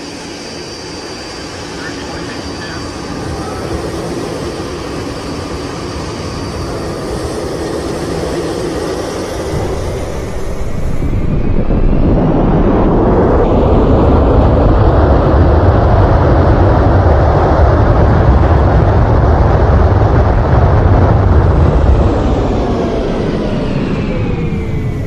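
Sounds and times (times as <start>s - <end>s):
airplane engines roaring: 0.0s - 25.0s.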